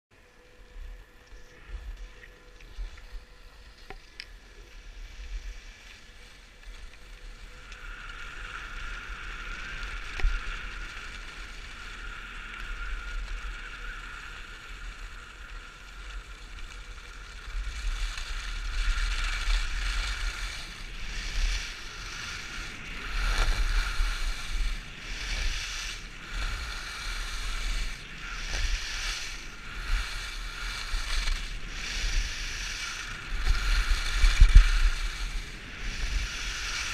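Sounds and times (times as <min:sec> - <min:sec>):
skis hissing on snow: 0:01.3 - 0:36.9
wind buffeting microphone: 0:07.2 - 0:36.9.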